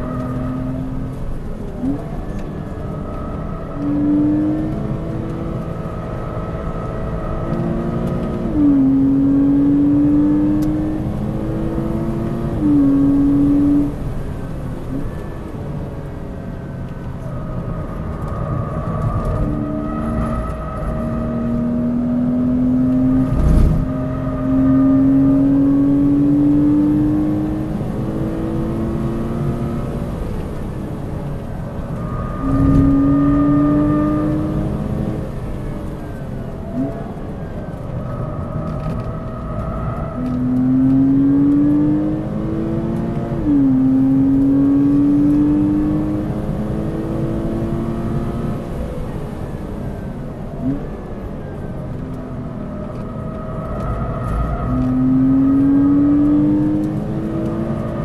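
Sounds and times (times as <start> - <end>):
car engine accelerating: 0.0 - 58.0
tyre and road noise: 0.0 - 58.0.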